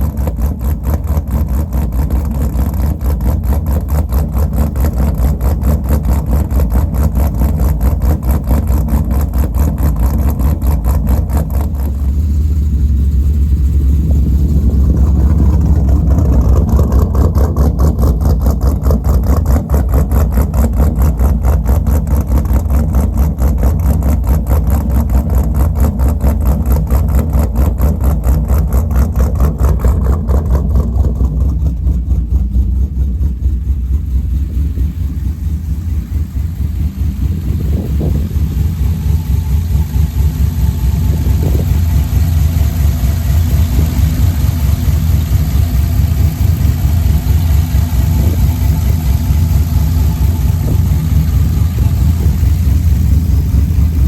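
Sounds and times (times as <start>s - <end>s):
engine idling with lope: 0.0s - 54.0s.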